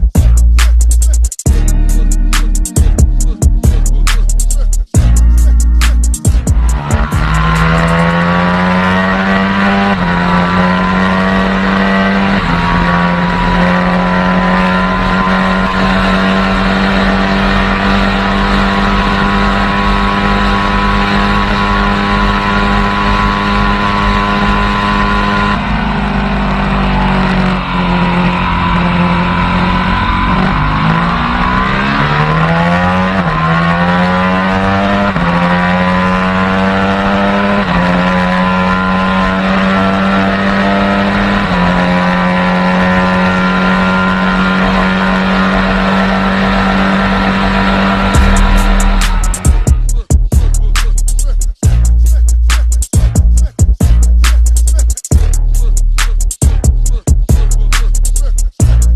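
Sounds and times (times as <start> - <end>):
motorcycle engine accelerating: 1.5 - 58.9.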